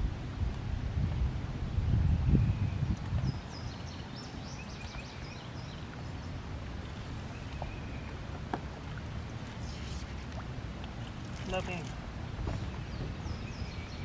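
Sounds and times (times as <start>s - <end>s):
low wind rumble on microphone: 0.0s - 14.0s.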